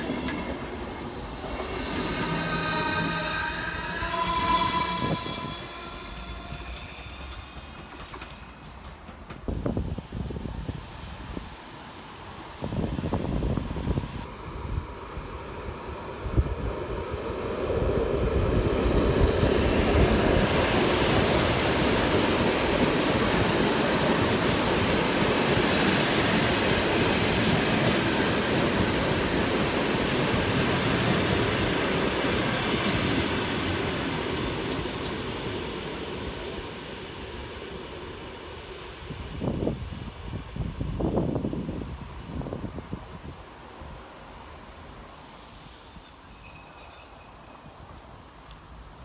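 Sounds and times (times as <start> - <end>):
train passing at speed: 0.0 - 49.0.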